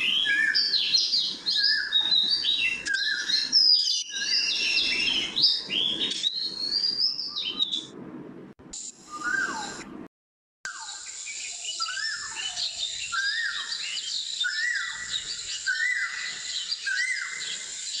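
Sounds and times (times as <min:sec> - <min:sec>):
bird calls: 0:00.0 - 0:07.9, 0:10.7 - 0:18.0.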